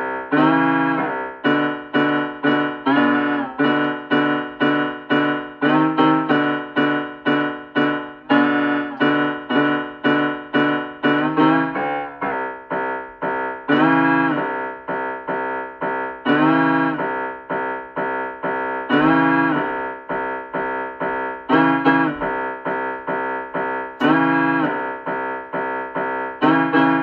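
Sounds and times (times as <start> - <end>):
piano chords: 0.0 - 27.0.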